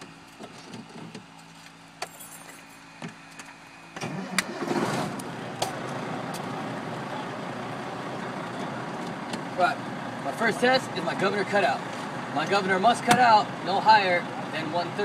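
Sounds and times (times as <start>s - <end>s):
diesel engine cranking and idling: 0.0s - 15.0s.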